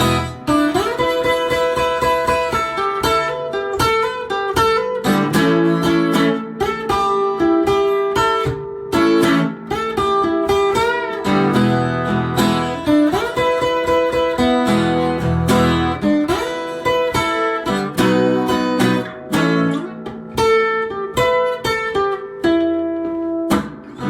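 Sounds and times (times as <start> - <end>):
blues guitar music: 0.0 - 24.0.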